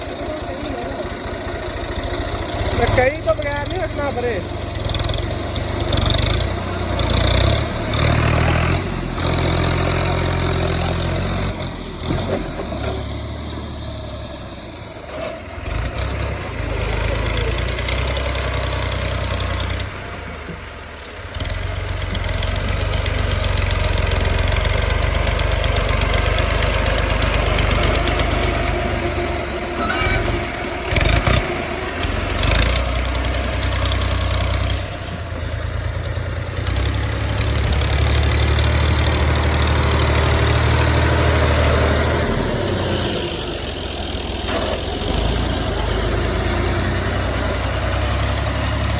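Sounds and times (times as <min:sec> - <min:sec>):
tractor diesel engine revving: 0:00.0 - 0:48.9
voices: 0:00.0 - 0:48.9.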